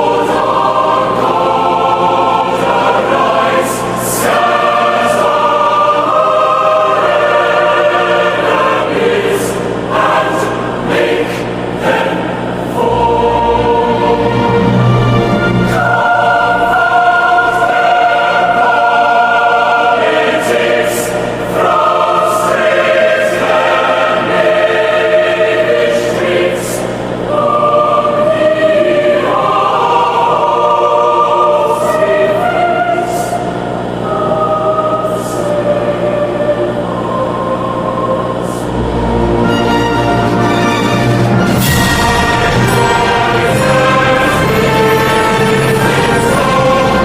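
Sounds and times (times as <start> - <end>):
choir singing held chords: 0.0 - 47.0.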